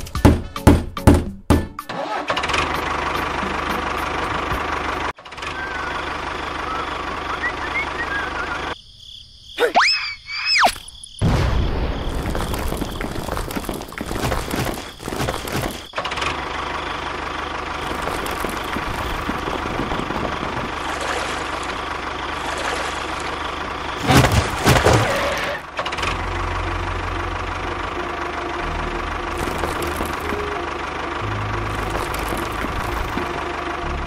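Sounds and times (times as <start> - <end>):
tractor engine idling: 1.9 - 8.8, 12.1 - 34.0.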